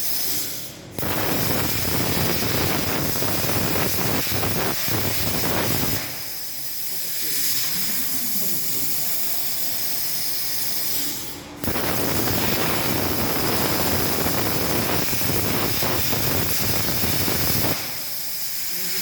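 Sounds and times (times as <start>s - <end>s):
compressed air hissing: 0.0s - 19.0s
plasma cutter harsh rushing: 0.0s - 19.0s.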